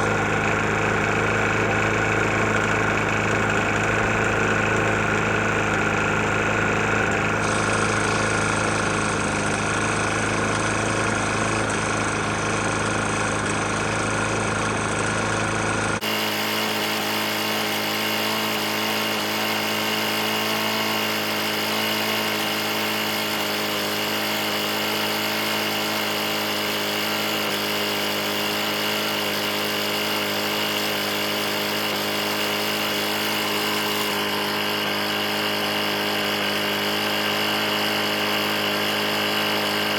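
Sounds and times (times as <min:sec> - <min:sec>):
lawn mower engine knocking: 0:00.0 - 0:39.9.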